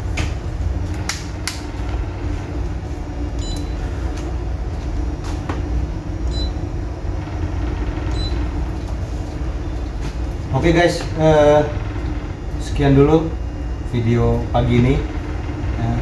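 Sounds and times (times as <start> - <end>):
ship machinery hum: 0.0 - 16.0.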